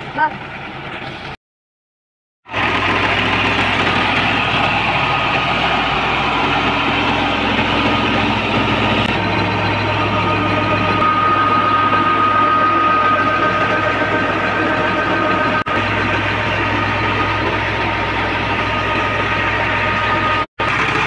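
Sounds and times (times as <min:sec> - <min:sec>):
diesel tractor engine running: 0:02.5 - 0:21.0
thin high whine: 0:02.8 - 0:20.5.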